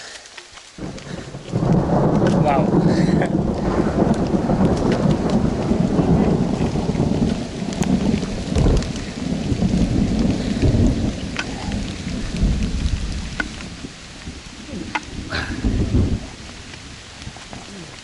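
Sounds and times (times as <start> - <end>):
heavy rain falling: 0.0 - 18.0
rain drop ticks: 0.0 - 18.0.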